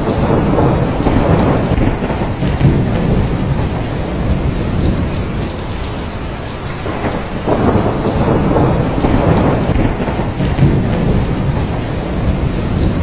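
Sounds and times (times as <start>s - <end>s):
heavy rain: 0.0s - 13.0s
rolling thunder: 0.0s - 13.0s.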